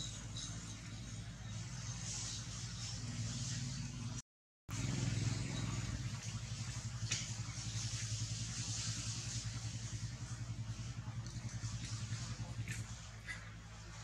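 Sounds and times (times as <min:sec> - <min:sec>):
low engine-like hum: 0:00.0 - 0:14.0.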